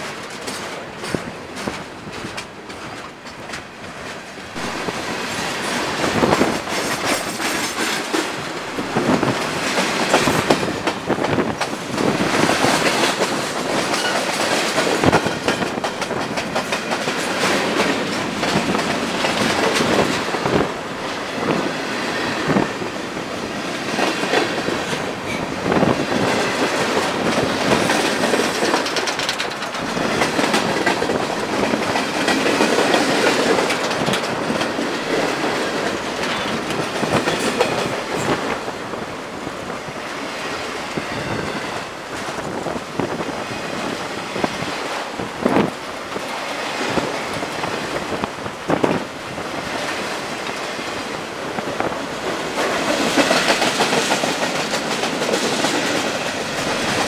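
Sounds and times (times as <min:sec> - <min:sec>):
wheels clacking over rail joints: 0:00.0 - 0:38.8, 0:39.9 - 0:57.0
steel wheels rumbling on rail: 0:00.0 - 0:57.0.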